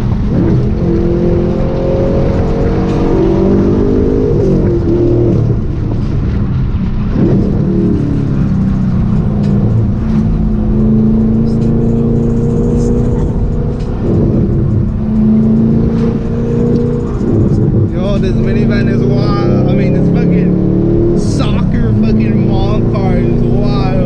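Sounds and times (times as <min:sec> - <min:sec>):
car engine running hard: 0:00.0 - 0:24.0.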